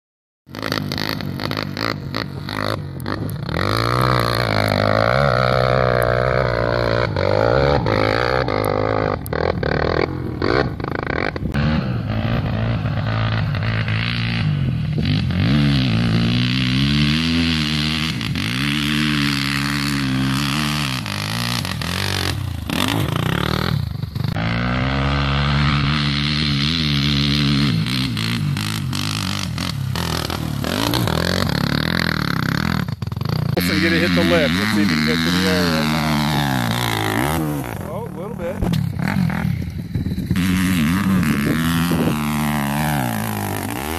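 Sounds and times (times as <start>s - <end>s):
dirt bike engine revving: 0.5s - 43.9s.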